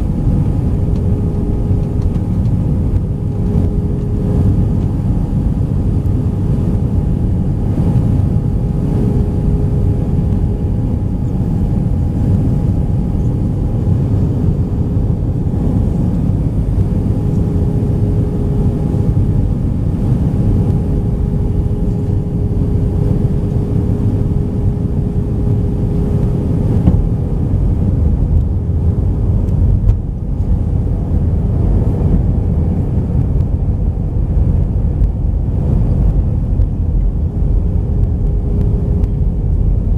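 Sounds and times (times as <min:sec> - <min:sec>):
airliner cabin rumble: 0:00.0 - 0:39.9
steady droning tone: 0:00.0 - 0:39.9.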